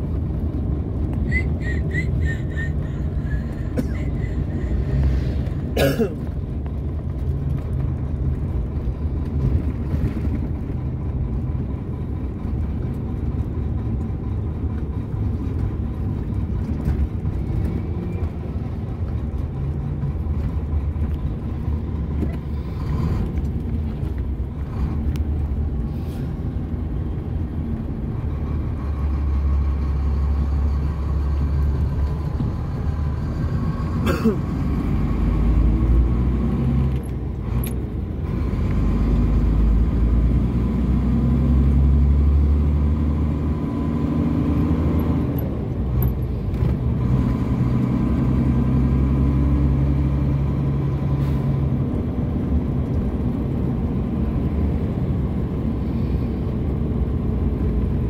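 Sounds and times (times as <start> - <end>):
truck diesel engine and road noise: 0.0 - 58.0.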